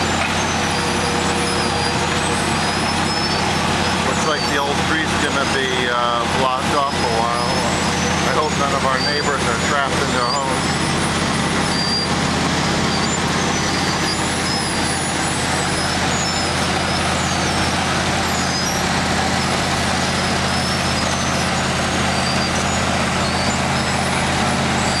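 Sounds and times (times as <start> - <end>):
loud diesel drone: 0.0 - 25.0
rough grinding of road milling: 0.0 - 25.0.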